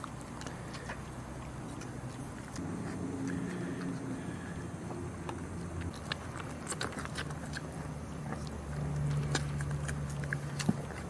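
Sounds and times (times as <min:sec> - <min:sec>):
low steady hum: 0:00.0 - 0:11.0
puppies suckling: 0:00.0 - 0:11.0.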